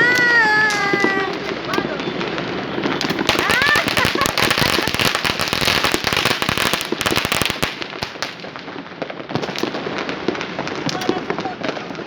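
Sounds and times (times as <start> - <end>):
firecrackers crackling: 0.0 - 12.0
fireworks bangs and pops: 0.0 - 12.0.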